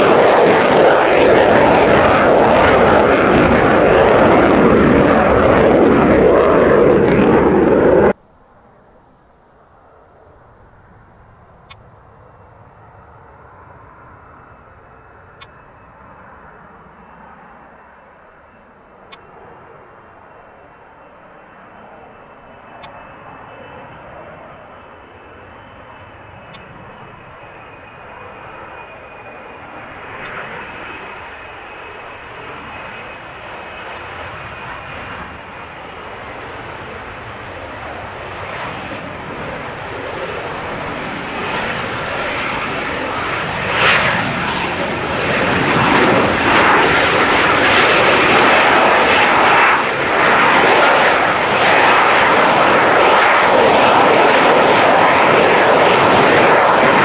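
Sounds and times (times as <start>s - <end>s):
jet engine roar: 0.0s - 57.0s
faint high whine: 0.8s - 57.0s.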